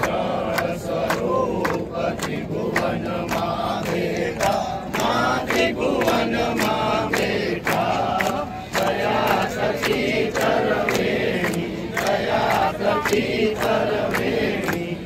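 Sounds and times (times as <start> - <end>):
crowd singing devotional song: 0.0 - 15.0
rhythmic hand claps: 0.0 - 15.0.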